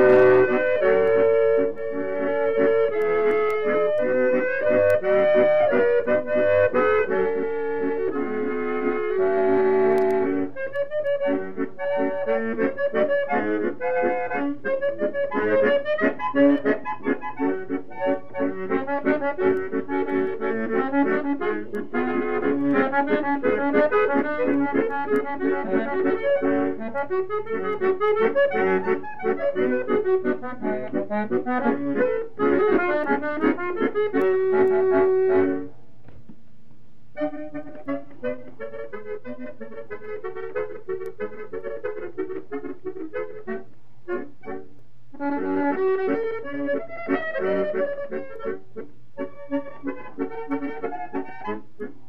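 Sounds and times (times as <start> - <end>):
accordion playing fast tune: 0.0 - 35.8, 37.2 - 52.0.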